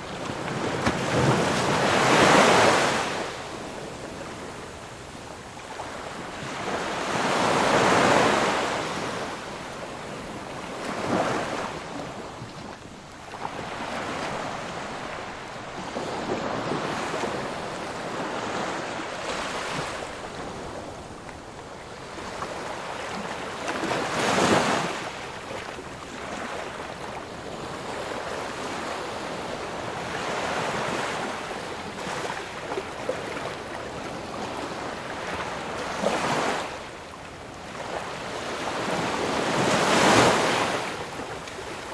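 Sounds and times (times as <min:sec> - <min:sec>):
waves breaking: 0:00.0 - 0:05.0, 0:05.6 - 0:41.9
ocean waves washing on shore: 0:00.0 - 0:41.9.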